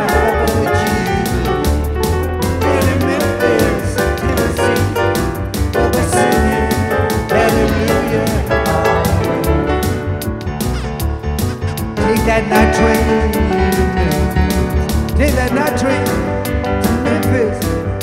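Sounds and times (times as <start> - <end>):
steady drum beat: 0.0 - 16.2
walking bass line: 0.0 - 17.5
piano: 0.0 - 18.0.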